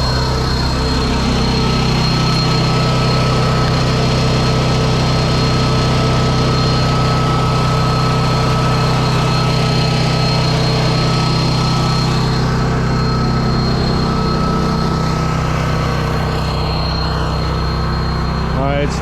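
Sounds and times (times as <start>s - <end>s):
constant high whine: 0.0s - 19.0s
engine idling: 0.0s - 19.0s.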